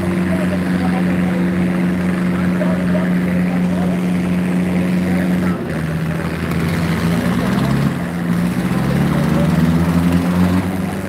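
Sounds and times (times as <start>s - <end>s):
diesel tractor engine under load: 0.0s - 11.0s.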